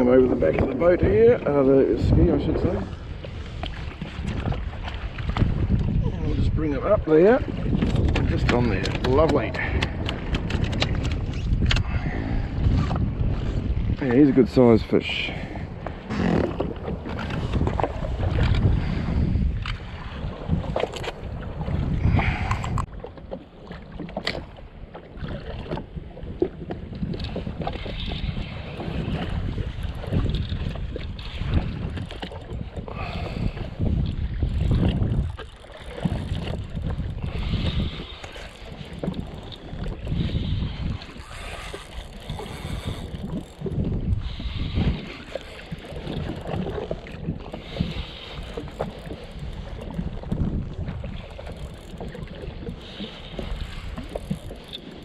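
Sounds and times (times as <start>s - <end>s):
water splashing against hull: 0.0s - 55.0s
wind buffeting microphone: 0.0s - 55.0s.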